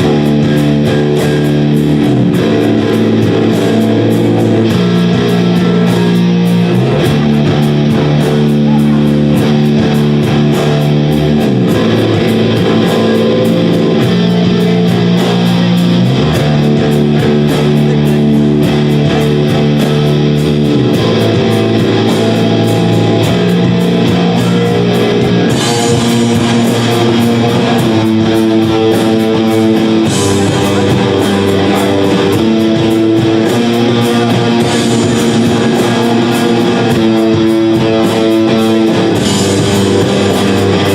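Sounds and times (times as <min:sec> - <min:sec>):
electric guitar chords: 0:00.0 - 0:40.9
live rock band playing: 0:00.0 - 0:40.9.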